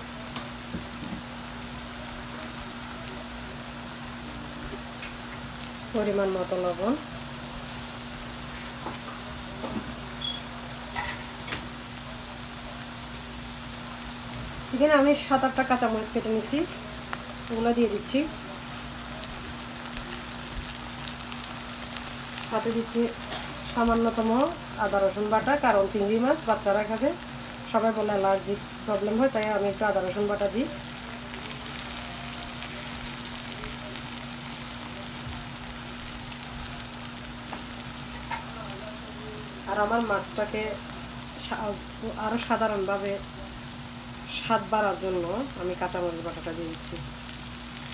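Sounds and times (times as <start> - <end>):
onions sizzling in oil: 0.0 - 47.9.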